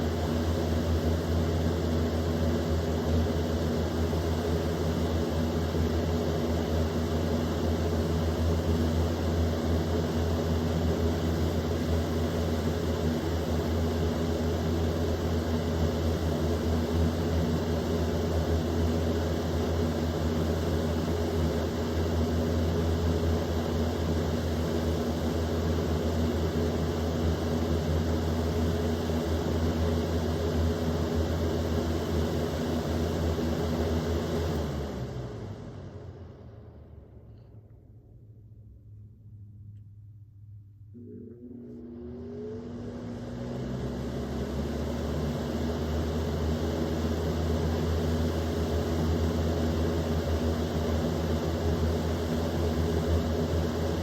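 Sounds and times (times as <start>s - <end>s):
electric fan air rush: 0.0s - 54.0s
low motor hum: 0.0s - 54.0s.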